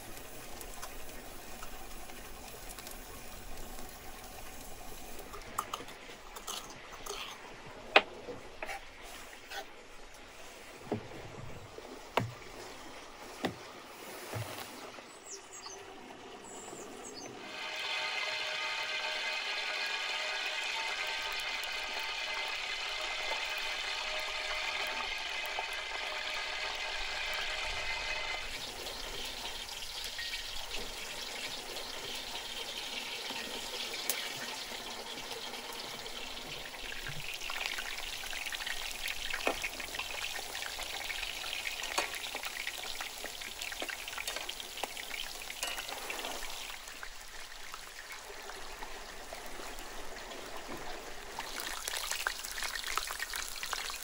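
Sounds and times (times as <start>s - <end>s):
potatoes deep-frying in oil: 0.0s - 7.4s, 16.6s - 54.0s.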